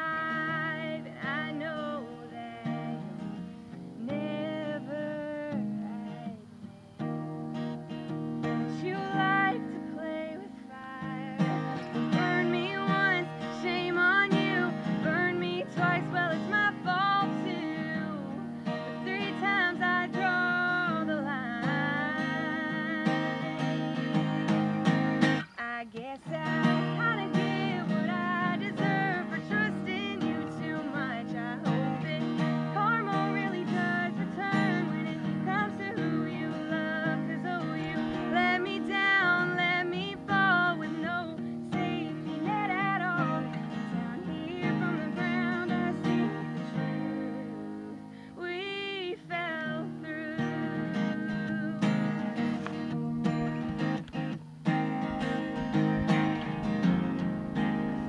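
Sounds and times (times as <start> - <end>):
woman singing a slow song: 0.0 - 56.8
acoustic guitars strumming: 0.0 - 58.0.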